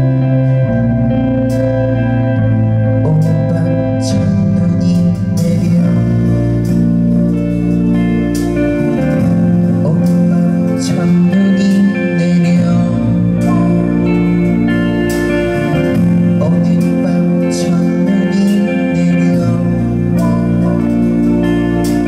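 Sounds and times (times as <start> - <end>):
live rock band: 0.0 - 22.0.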